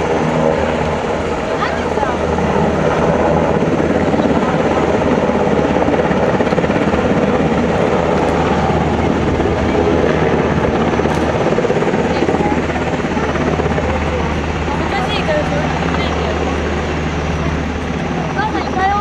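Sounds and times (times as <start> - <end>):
helicopter running: 0.0 - 19.0.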